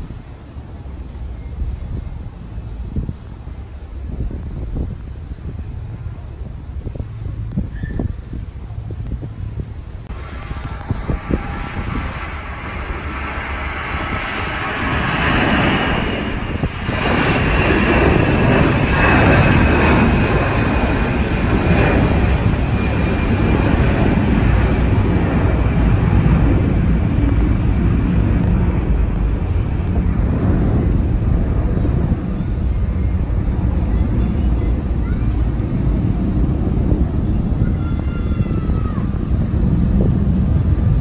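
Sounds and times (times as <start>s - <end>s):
jet airliner taking off: 0.0s - 41.0s.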